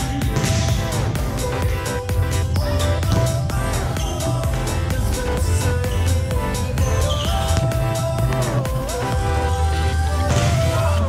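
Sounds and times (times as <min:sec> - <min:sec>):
dance music with heavy bass: 0:00.0 - 0:11.0.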